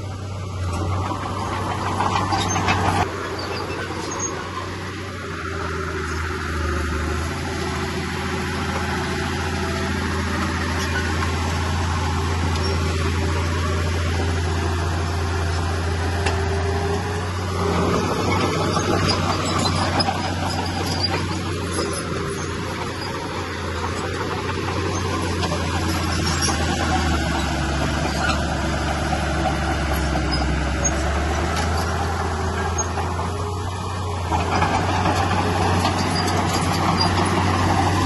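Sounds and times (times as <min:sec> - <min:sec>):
heavy diesel engine humming: 0:00.0 - 0:38.0.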